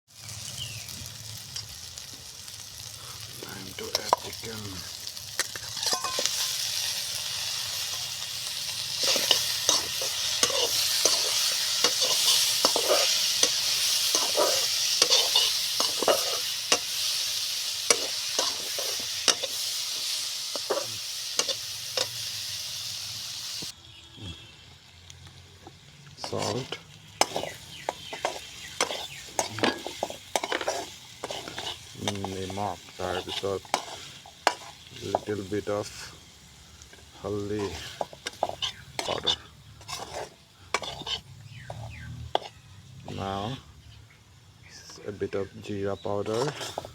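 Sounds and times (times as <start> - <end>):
chicken sizzling in hot oil: 0.1 - 44.5, 45.8 - 46.9.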